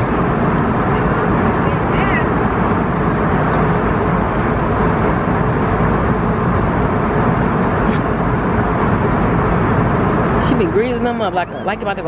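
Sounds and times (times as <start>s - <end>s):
airliner cabin noise: 0.0s - 12.0s.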